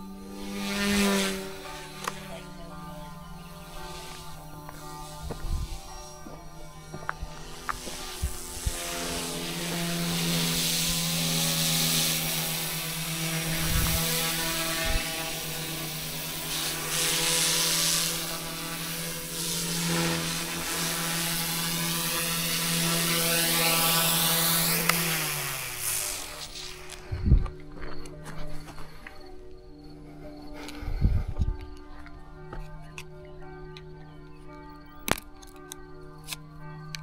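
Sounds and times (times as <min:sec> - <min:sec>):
toy helicopter rotor whine: 0:00.0 - 0:32.0, 0:32.6 - 0:37.0.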